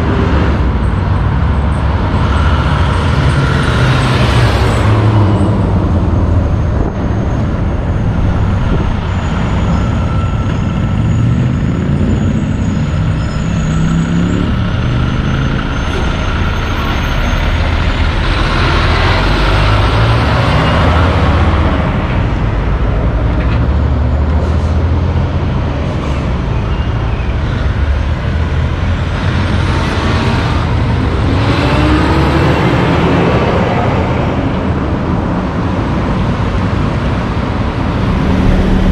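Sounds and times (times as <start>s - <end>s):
diesel engines revving: 0.0s - 38.9s
trucks driving past: 0.0s - 38.9s.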